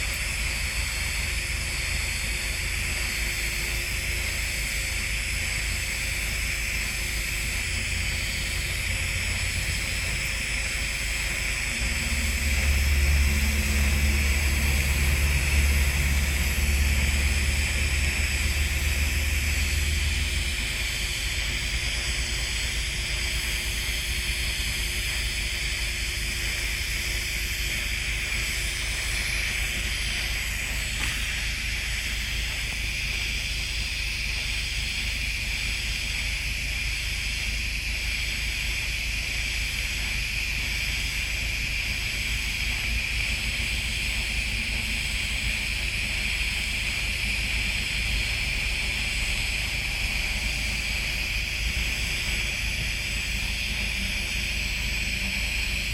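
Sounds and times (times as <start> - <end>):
welding arc hissing: 0.0 - 55.9.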